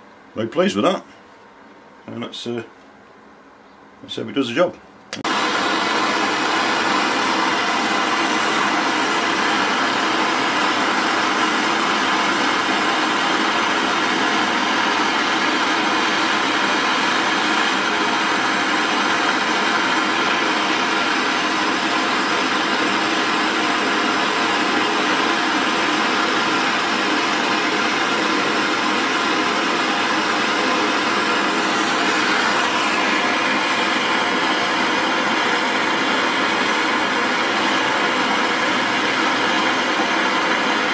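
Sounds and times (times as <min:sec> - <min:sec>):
torch flame hissing: 0:05.2 - 0:40.9.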